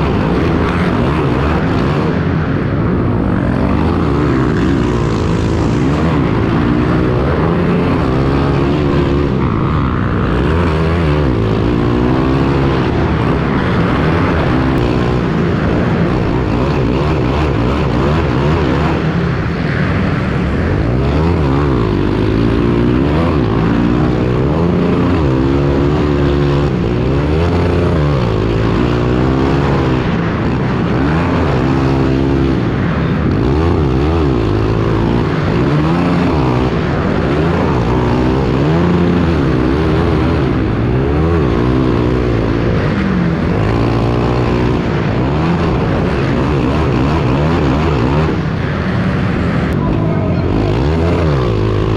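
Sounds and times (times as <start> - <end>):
pit bike engines revving: 0.0 - 51.9.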